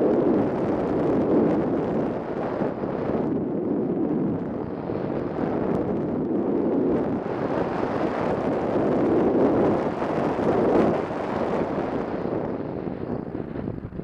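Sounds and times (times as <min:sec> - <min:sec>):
wind rushing over camera: 0:00.0 - 0:14.0.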